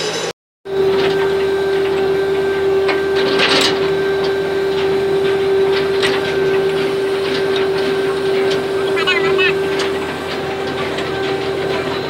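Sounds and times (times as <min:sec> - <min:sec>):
winch machinery humming: 0:00.0 - 0:12.0
metallic clanks: 0:00.8 - 0:12.0.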